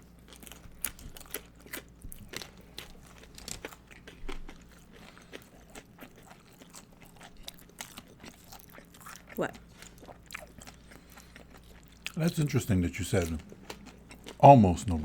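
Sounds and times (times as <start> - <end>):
crunching and chewing chips: 0.0 - 15.0.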